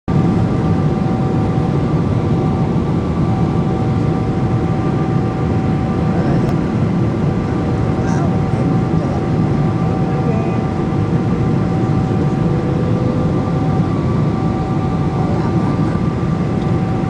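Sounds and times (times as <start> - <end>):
roar of engines and rushing air: 0.1 - 17.0.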